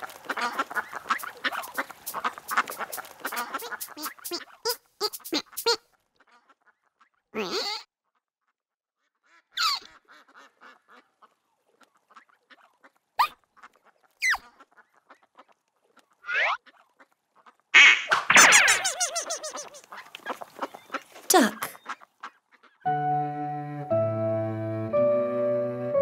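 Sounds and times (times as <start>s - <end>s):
duck quacking: 0.0s - 22.9s.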